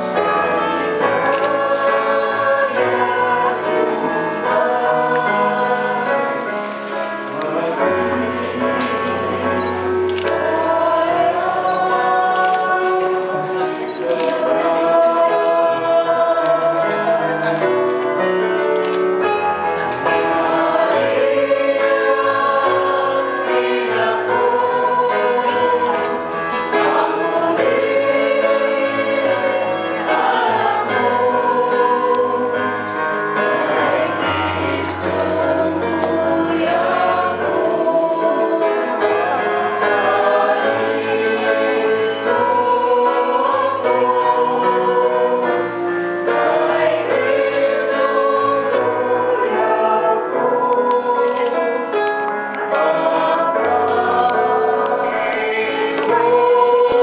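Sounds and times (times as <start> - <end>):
choir singing a hymn: 0.0 - 57.0
instrumental accompaniment: 0.0 - 57.0.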